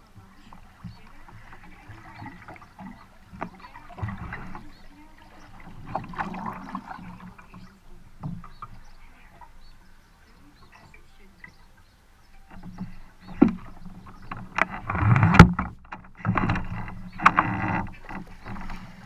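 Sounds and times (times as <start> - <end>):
paddle splashing in water: 0.0 - 19.0
water rippling along hull: 0.0 - 19.0.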